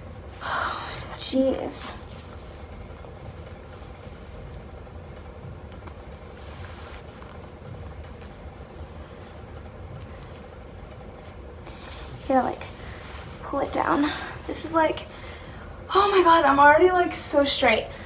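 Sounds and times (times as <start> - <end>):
room heater humming: 0.0 - 18.0.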